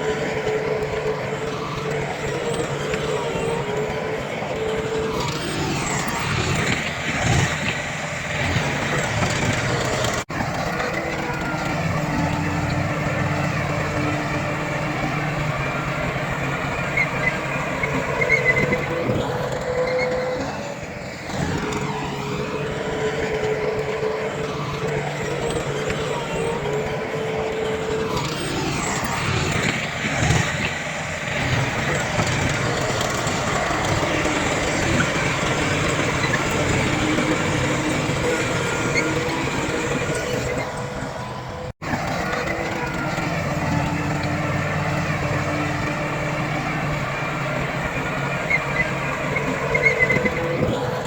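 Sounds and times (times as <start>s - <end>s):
diesel engines working: 0.0s - 51.0s.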